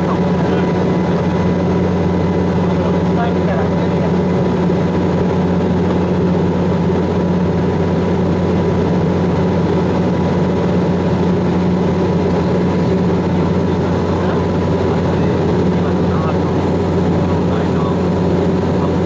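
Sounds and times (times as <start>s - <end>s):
airliner engines droning in cabin: 0.0s - 19.0s.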